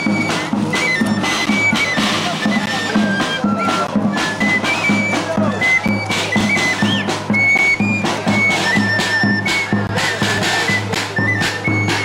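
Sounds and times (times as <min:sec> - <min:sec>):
shrill flute melody: 0:00.0 - 0:12.0
steady drum beat: 0:00.0 - 0:12.0.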